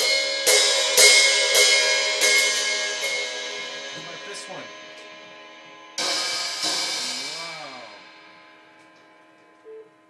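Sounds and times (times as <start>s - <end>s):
cymbal ringing: 0.0s - 10.0s.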